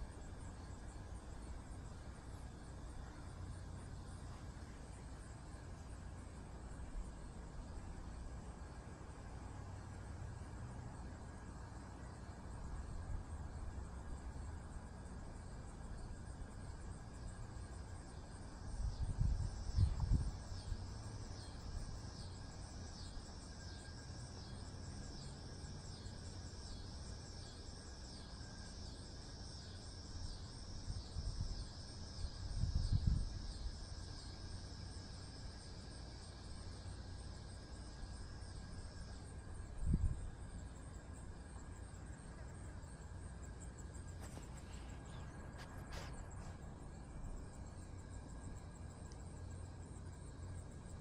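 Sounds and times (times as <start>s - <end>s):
insect chirping: 0.0s - 51.0s.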